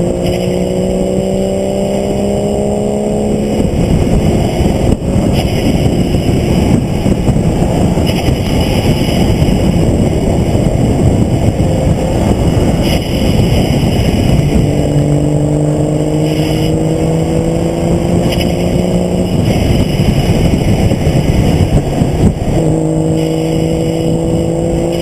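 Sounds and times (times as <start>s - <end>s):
race car engine: 0.0s - 25.0s
wind noise: 0.0s - 25.0s.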